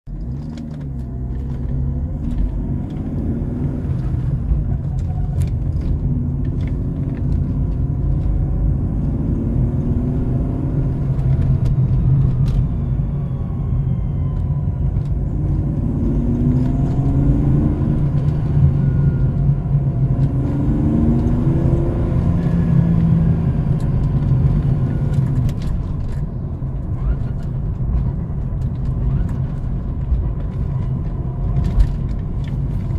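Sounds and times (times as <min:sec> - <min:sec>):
car engine rumbling: 0:00.0 - 0:32.9.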